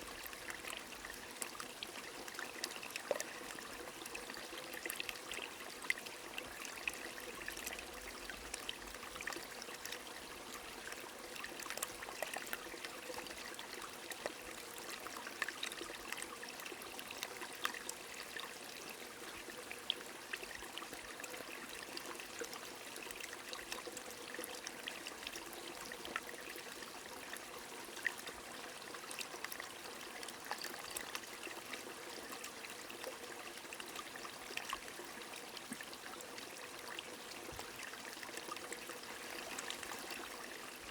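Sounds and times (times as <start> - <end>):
small stream running: 0.0 - 40.9.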